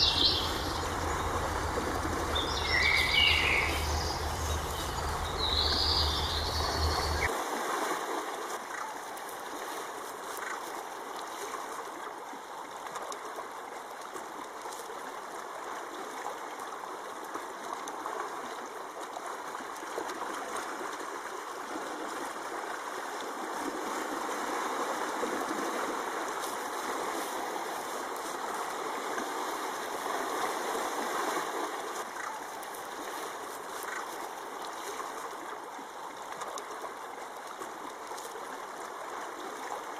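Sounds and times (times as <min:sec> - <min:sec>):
running water trickling: 0:00.0 - 0:07.3, 0:14.0 - 0:39.9.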